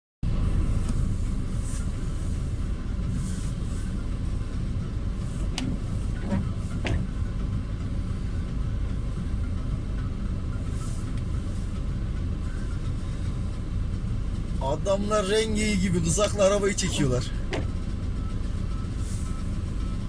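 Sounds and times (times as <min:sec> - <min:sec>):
car engine and road noise: 0:00.2 - 0:20.0.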